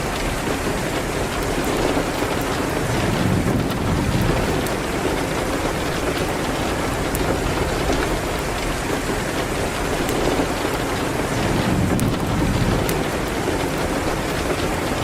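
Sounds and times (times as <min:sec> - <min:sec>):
rain hitting a window: 0:00.0 - 0:15.0.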